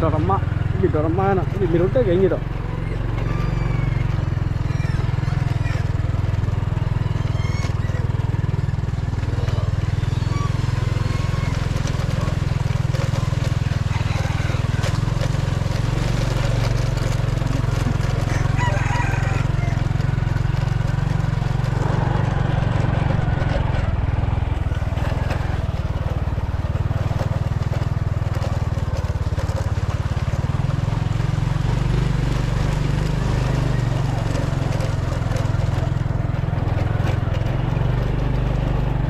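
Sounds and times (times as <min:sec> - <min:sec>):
knocks and rattles from bumps: 0:00.0 - 0:39.0
small motorcycle engine running: 0:00.0 - 0:39.0.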